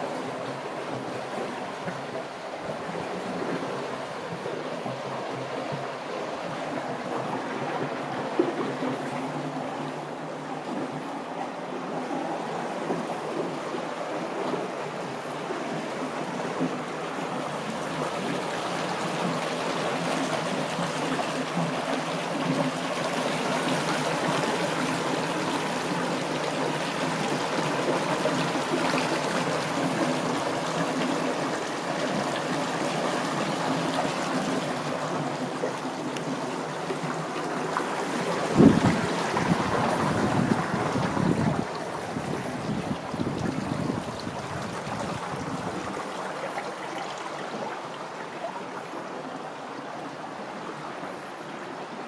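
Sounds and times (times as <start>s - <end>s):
water rushing and trickling: 0.0s - 52.0s.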